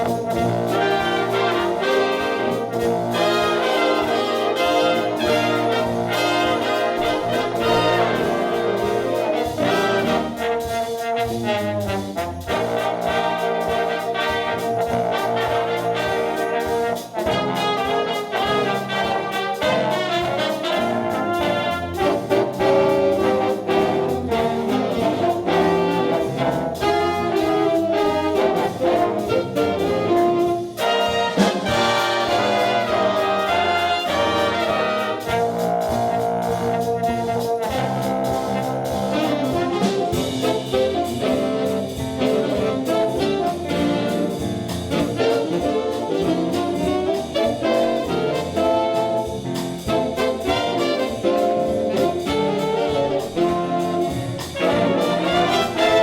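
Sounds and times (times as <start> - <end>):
jazzy brass ensemble: 0.0 - 56.0.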